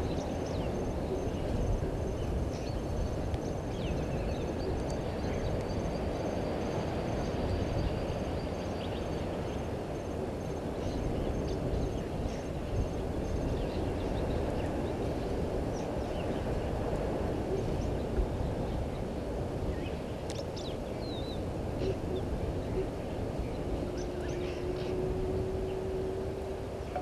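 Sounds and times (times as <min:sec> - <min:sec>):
outdoor background noise: 0:00.0 - 0:27.0
steady low hum: 0:00.0 - 0:27.0.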